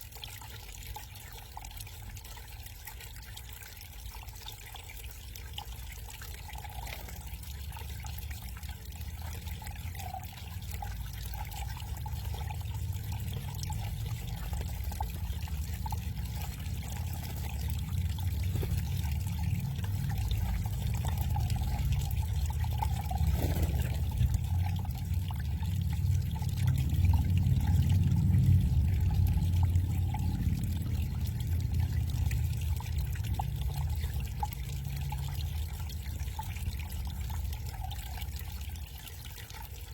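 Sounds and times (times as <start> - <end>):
water cascade pouring and trickling: 0.0 - 39.9.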